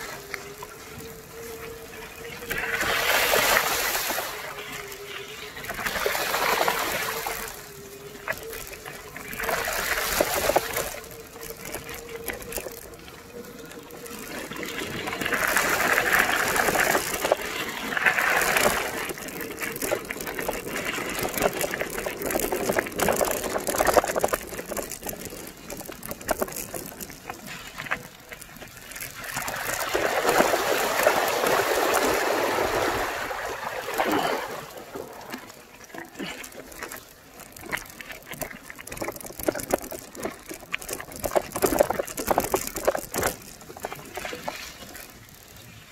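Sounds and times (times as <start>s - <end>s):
bicycle tyres spraying water: 0.0s - 45.9s
gravel crackling under wheels: 0.0s - 45.9s.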